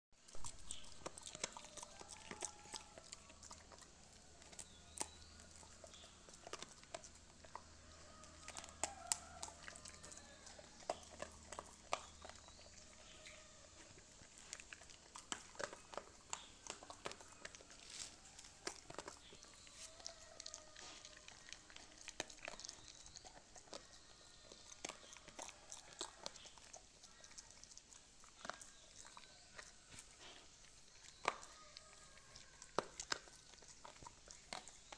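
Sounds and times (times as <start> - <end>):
dog crunching corn: 0.2 - 34.9.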